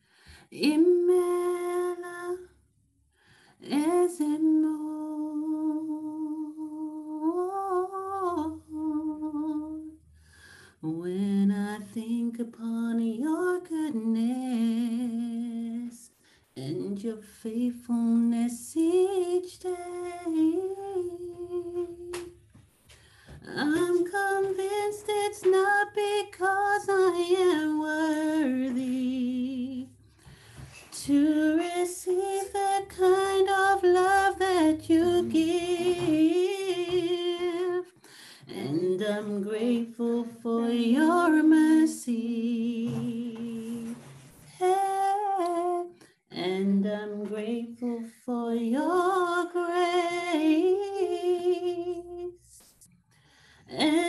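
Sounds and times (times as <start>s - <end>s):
woman singing worship song: 0.0s - 2.6s, 3.4s - 52.8s, 53.4s - 54.0s.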